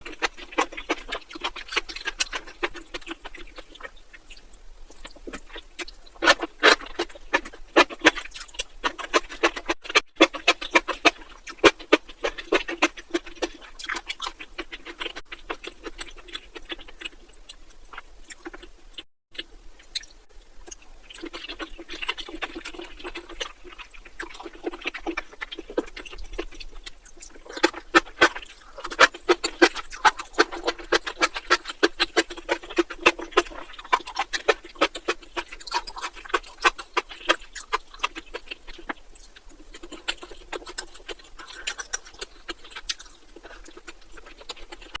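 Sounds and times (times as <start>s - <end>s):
wet chewing and slurping: 0.0s - 45.0s.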